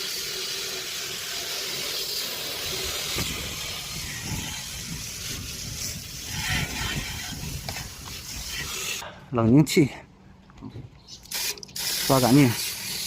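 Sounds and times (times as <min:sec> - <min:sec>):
spray gun jetting water: 0:00.0 - 0:09.0, 0:11.2 - 0:13.0.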